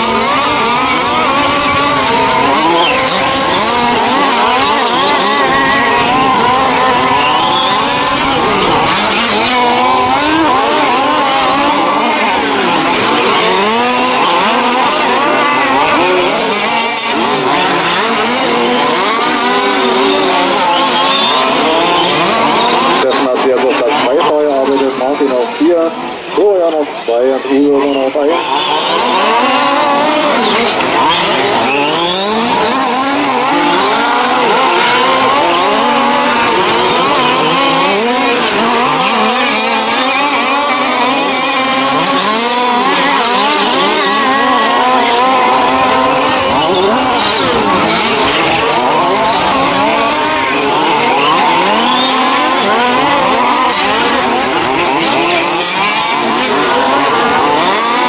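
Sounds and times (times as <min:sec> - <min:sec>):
model car engines revving: 0:00.0 - 0:58.0.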